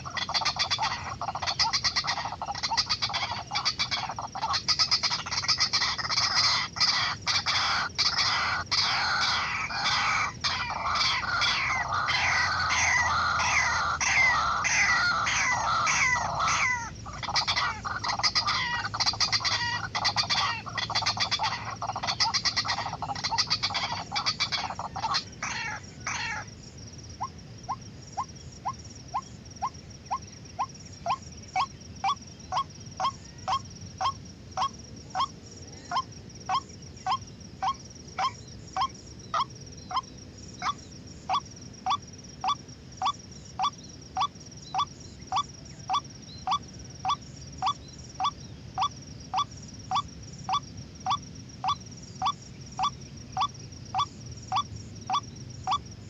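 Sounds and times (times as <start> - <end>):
bird calling harshly: 0.0 - 26.5, 29.2 - 55.8.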